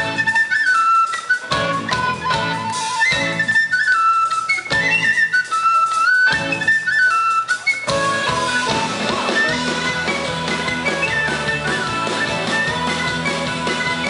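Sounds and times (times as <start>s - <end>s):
drums: 0.0s - 14.0s
penny whistle melody: 0.0s - 14.0s.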